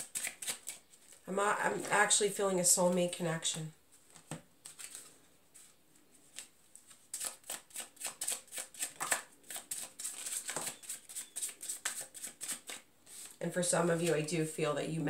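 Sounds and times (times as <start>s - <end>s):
cards being shuffled: 0.0s - 2.0s, 3.9s - 14.3s.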